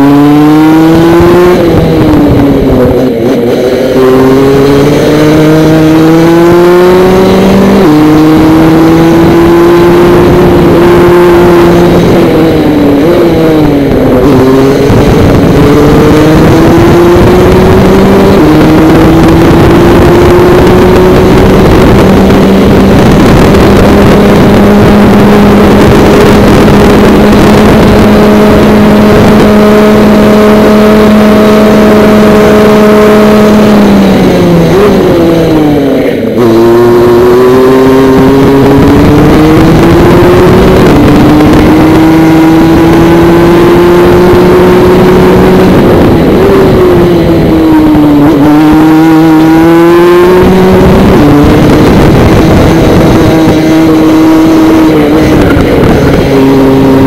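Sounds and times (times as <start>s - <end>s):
kart engine at full throttle: 0.0s - 57.0s.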